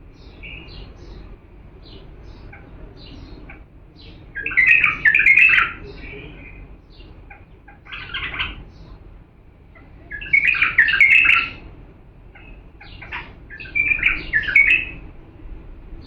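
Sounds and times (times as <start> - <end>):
bird chirps: 0.0 - 9.0, 9.8 - 11.7, 12.3 - 15.0
bird singing: 0.0 - 9.1, 9.7 - 16.0.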